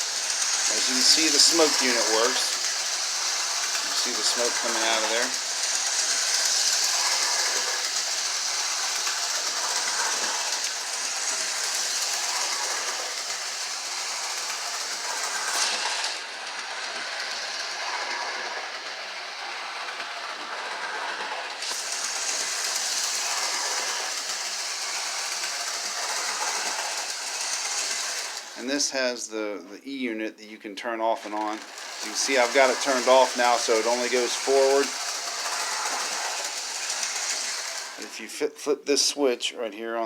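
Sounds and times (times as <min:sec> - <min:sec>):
electric motor whirring: 0:00.0 - 0:28.6, 0:31.2 - 0:38.1
wheels clicking over rail joints: 0:00.0 - 0:28.6, 0:31.2 - 0:38.1.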